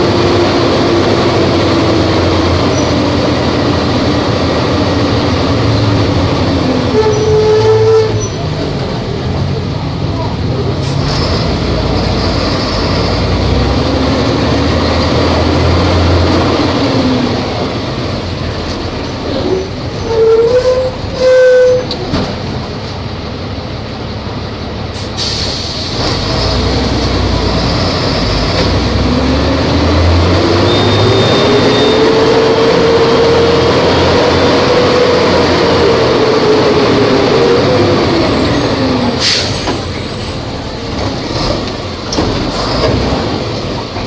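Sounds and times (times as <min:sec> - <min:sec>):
bus engine running: 0:00.0 - 0:44.0.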